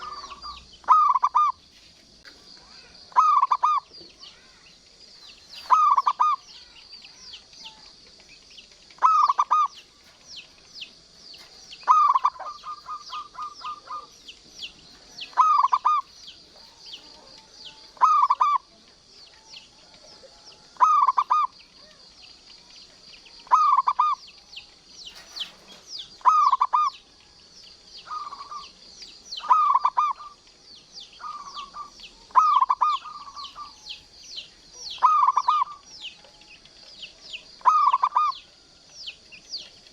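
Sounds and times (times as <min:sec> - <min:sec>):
dove cooing: 0:00.0 - 0:01.7, 0:02.7 - 0:22.7, 0:23.4 - 0:24.5, 0:25.1 - 0:27.4, 0:28.0 - 0:34.1, 0:34.8 - 0:38.8
small birds chirping: 0:00.0 - 0:39.9.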